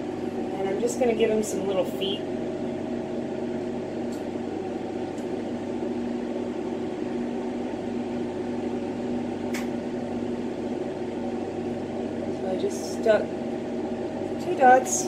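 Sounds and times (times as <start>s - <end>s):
workshop equipment running: 0.0s - 15.0s.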